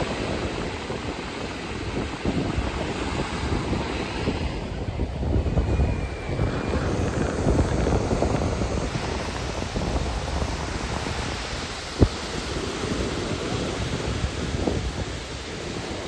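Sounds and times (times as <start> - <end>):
waves breaking in surf: 0.0 - 16.0
wind rumbling on microphone: 0.0 - 16.0.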